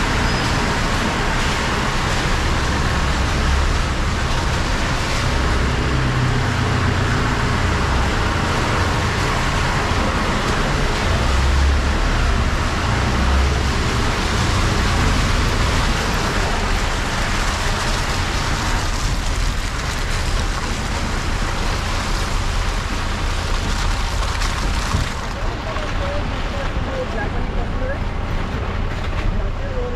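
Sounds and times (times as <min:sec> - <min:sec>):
tyres on muddy track: 0:00.0 - 0:29.9
vehicle engine rumble: 0:00.0 - 0:29.9.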